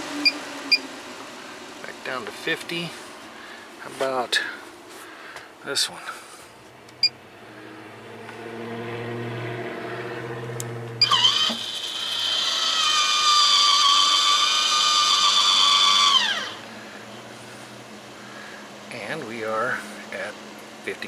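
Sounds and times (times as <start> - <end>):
roof vent fan whining: 0.0 - 21.0.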